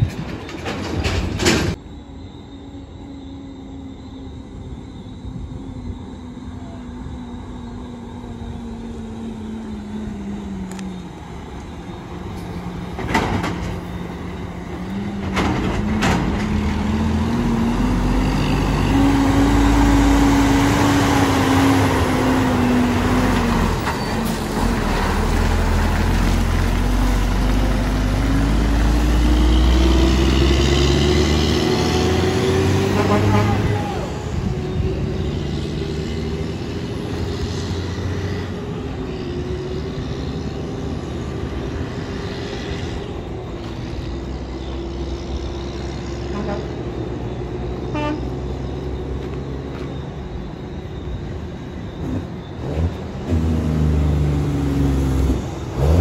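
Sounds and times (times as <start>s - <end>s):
truck diesel engine pulling: 6.3s - 56.0s.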